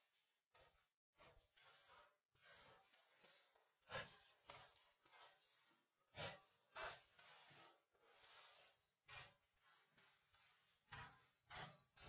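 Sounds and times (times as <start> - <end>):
gloved hands rubbing plaster: 0.1 - 12.0
swishes of a stroke on a wall: 0.5 - 12.0.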